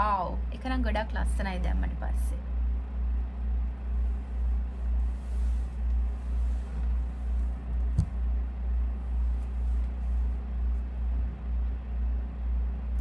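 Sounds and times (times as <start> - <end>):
low pulsing rumbling hum: 0.0 - 13.0.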